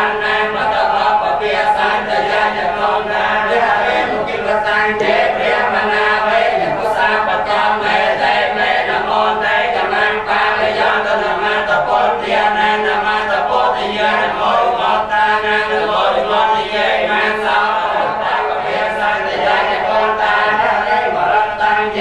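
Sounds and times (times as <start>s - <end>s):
monks chanting in unison: 0.0s - 22.0s.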